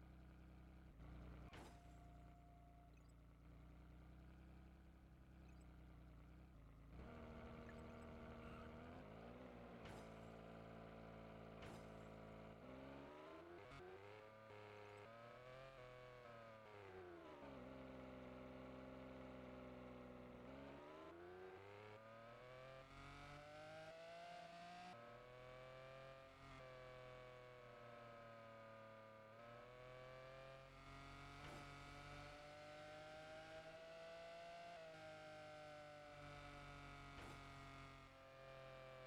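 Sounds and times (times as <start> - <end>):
faint car engine running: 0.0 - 39.0.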